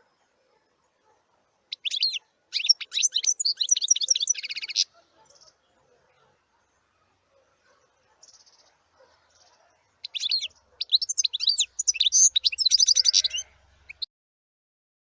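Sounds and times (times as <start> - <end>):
bird singing: 0.0 - 14.1.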